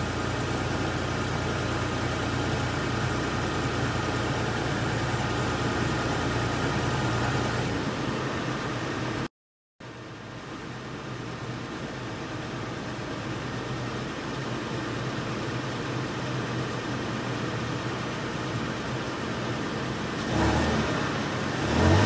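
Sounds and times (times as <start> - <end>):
truck engine idling and revving: 0.0 - 9.3, 10.5 - 22.0.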